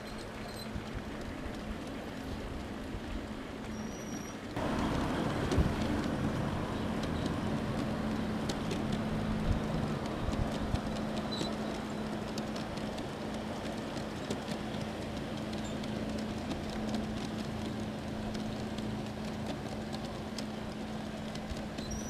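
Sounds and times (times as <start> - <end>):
train running: 0.0 - 22.0
wheels clicking over rail joints: 0.0 - 22.0.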